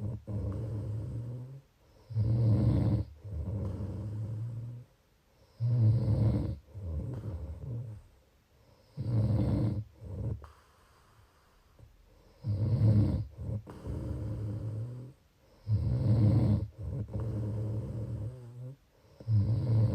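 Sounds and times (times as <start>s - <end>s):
rattling snores: 0.0s - 4.9s, 5.6s - 8.1s, 8.9s - 10.8s, 12.3s - 19.9s.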